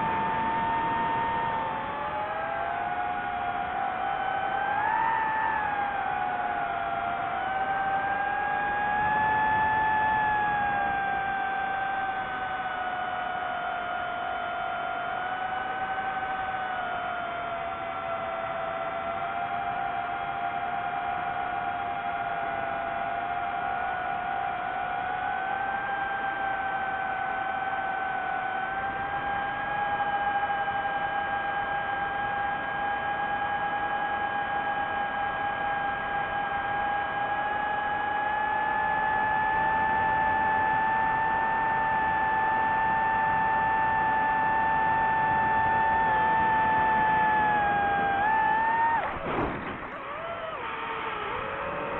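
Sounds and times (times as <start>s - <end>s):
drone propellers whining: 0.0s - 51.9s.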